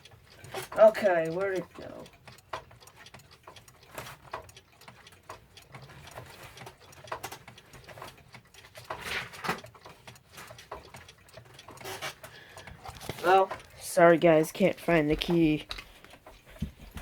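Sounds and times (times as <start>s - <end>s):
pendulum clocks ticking: 0.0s - 17.0s.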